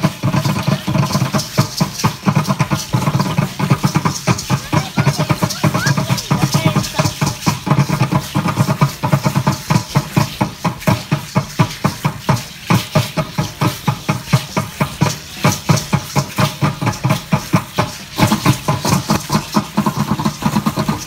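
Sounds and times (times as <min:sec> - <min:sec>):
ankle rattles hissing: 0:00.0 - 0:21.0
drum beaten in fast rhythm: 0:00.0 - 0:21.0.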